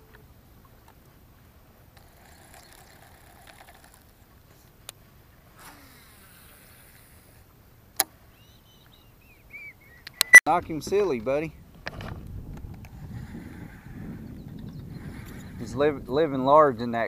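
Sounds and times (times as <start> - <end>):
faint wind: 0.0 - 17.0
water noise: 0.0 - 17.0.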